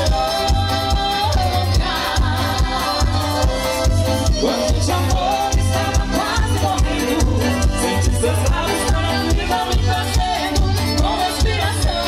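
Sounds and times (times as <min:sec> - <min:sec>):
live band playing dance tune: 0:00.0 - 0:12.0.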